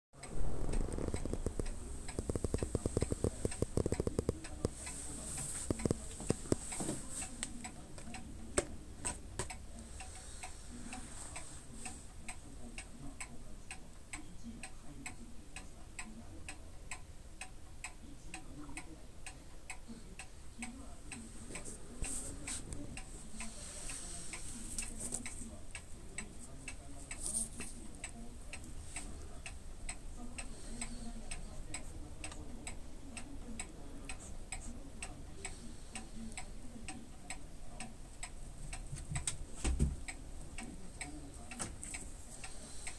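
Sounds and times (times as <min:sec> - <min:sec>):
faint steady hum: 0:00.2 - 0:42.9
steady ticking: 0:00.2 - 0:42.9.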